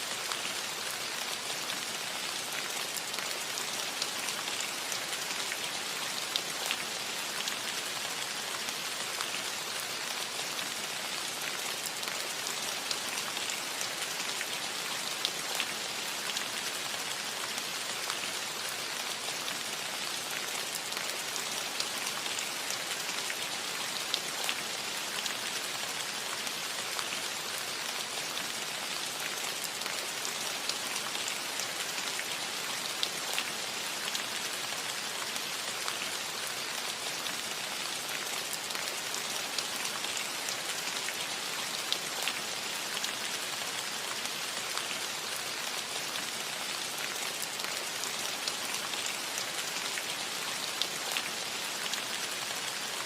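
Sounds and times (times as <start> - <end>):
rain on a metal roof: 0.0 - 53.0.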